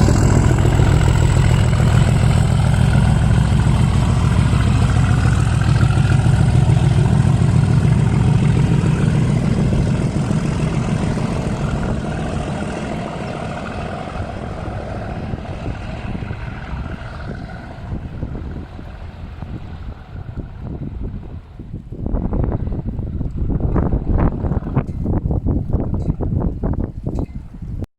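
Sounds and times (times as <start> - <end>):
diesel locomotive engine working: 0.0 - 27.5.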